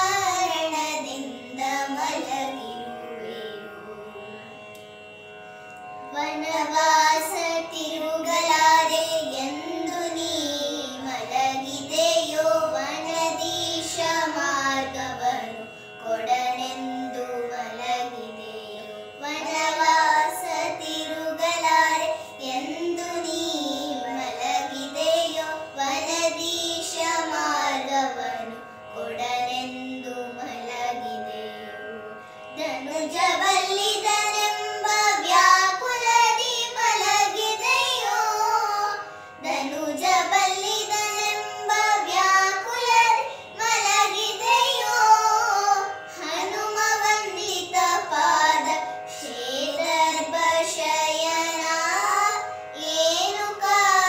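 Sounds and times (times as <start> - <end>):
girls singing devotional song: 0.0 - 4.5, 6.1 - 54.0
steady drone: 0.0 - 54.0.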